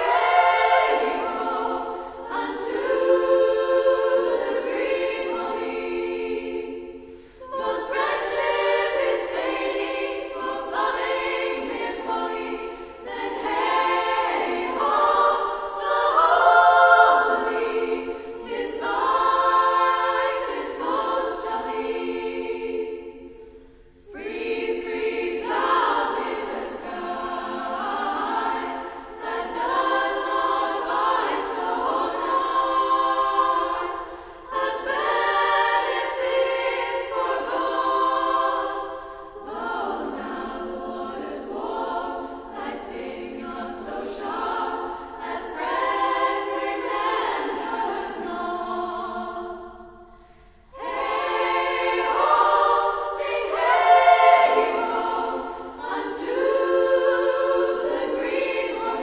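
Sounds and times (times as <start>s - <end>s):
girls' choir singing a cappella: 0.0s - 59.0s.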